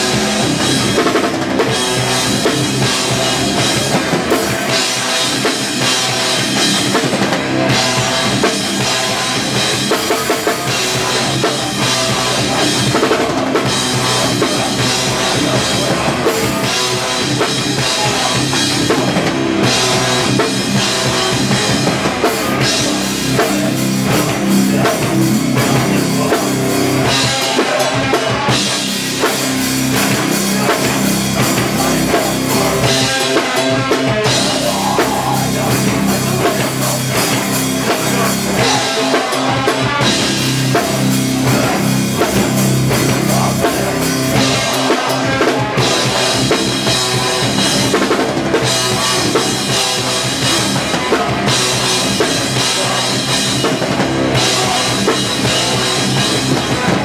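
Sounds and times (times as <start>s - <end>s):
heavy bass drum: 0.0s - 57.0s
punk band playing live: 0.0s - 57.0s.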